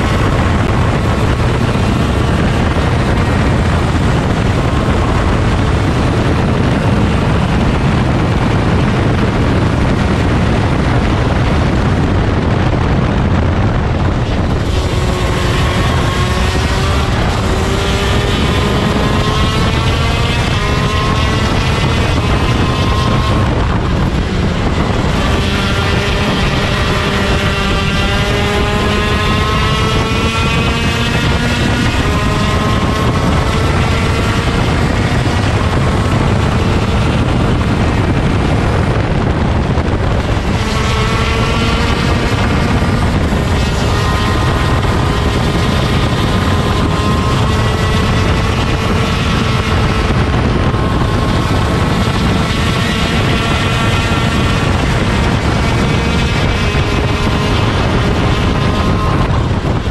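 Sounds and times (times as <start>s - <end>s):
kart engine revving: 0.0s - 59.9s
wind and road noise: 0.0s - 59.9s.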